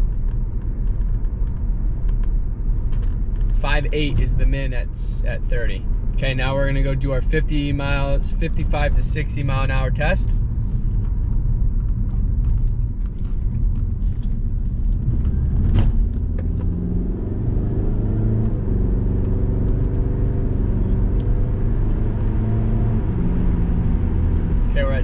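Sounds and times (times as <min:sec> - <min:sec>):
car engine drone: 0:00.0 - 0:25.0
road and tyre rumble: 0:00.0 - 0:25.0.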